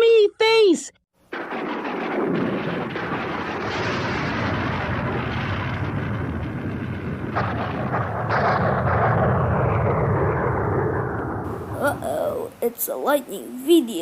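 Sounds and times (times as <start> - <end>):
thunder rumbling: 1.2 - 14.0
sharp thunder cracks: 1.3 - 12.6.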